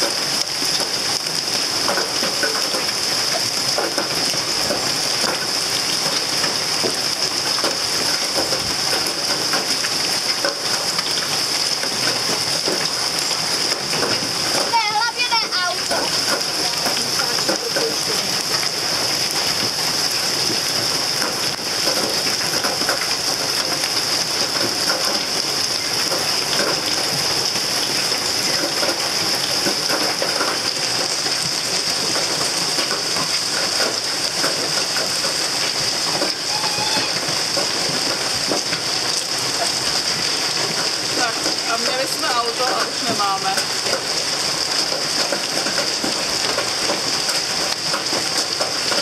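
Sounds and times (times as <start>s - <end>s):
hail and heavy rain pelting: 0.0s - 49.0s.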